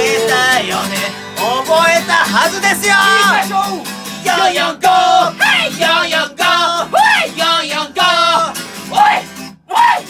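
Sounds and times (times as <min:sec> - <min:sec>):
strummed acoustic guitar: 0:00.0 - 0:10.0
two men singing: 0:00.0 - 0:10.0.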